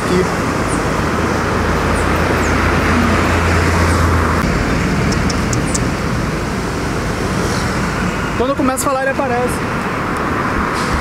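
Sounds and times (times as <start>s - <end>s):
passing vehicle engine and tyres: 0.0s - 11.0s.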